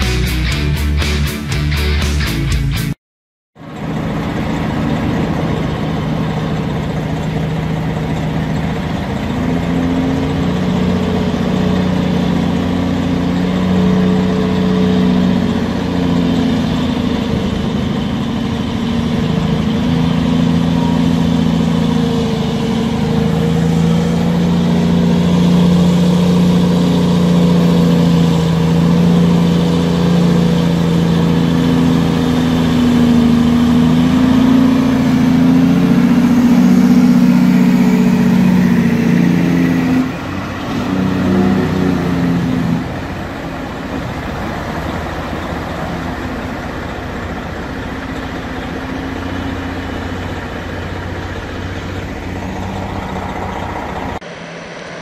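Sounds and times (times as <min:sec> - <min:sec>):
diesel truck engine: 0:00.0 - 0:03.0, 0:03.6 - 0:55.0.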